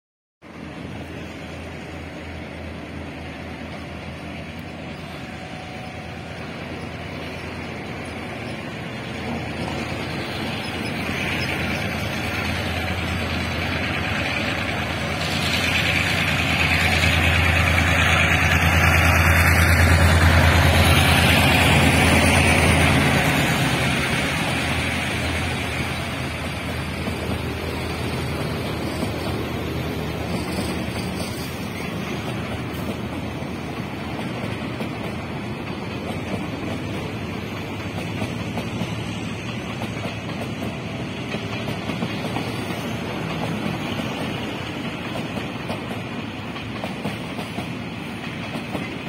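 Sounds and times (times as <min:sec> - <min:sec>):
diesel locomotive engine drone: 0:00.4 - 0:49.0
train wheels rumbling on rails: 0:00.4 - 0:49.0.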